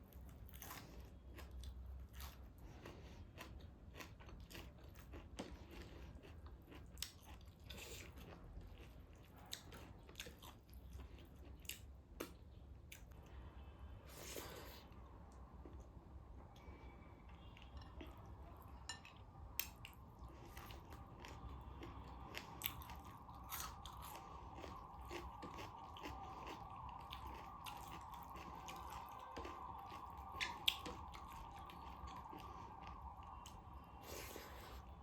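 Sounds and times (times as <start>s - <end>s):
person chewing food: 0.0s - 15.9s, 16.5s - 35.0s
faint steady hum: 0.0s - 35.0s.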